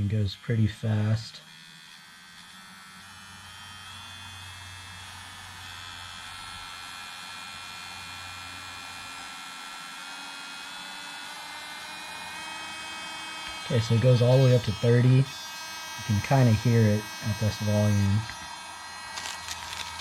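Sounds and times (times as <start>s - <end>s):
electric nail drill whine: 0.7s - 20.0s.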